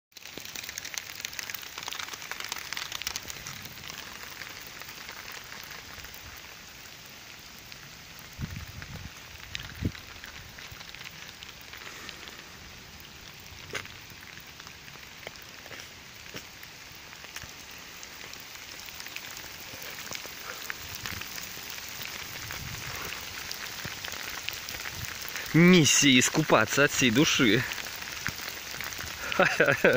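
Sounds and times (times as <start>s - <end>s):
heavy rain on asphalt road: 0.1s - 29.9s.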